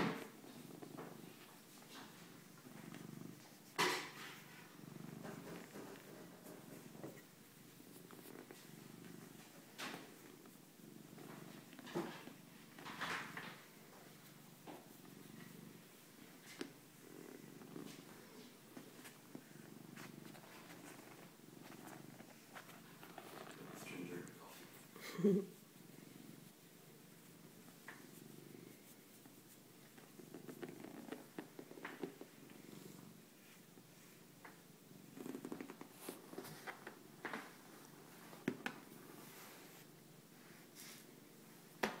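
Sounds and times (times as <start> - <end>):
cat purring: 0.0 - 42.0.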